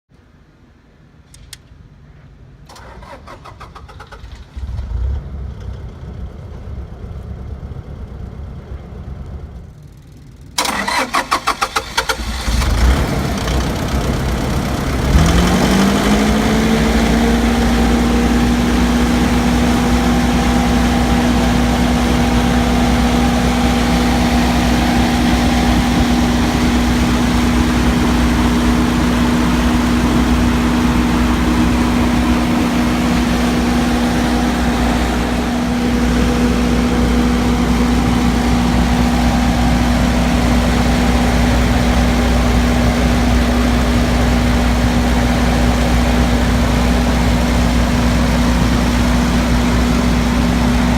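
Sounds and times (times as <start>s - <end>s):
generator engine running: 2.7s - 50.9s
starter cranking diesel engine: 2.7s - 50.9s
low rumble: 4.4s - 10.6s, 12.8s - 50.9s.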